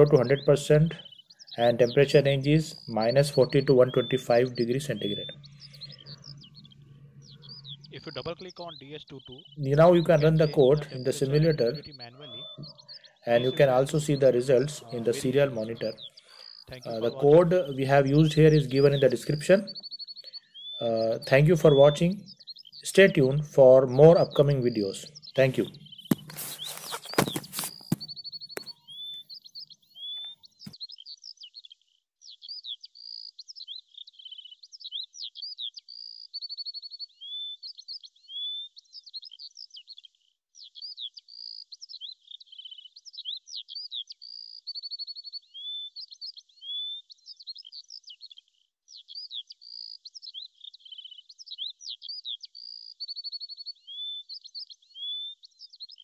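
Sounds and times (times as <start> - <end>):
bird chirps and trills: 0.0 - 56.0.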